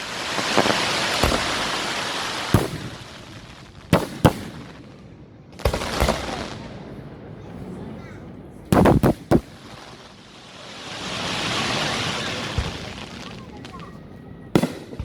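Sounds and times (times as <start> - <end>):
fireworks shells bursting with bangs: 0.0 - 7.2, 8.7 - 15.0
fireworks crackling hiss: 0.0 - 15.0.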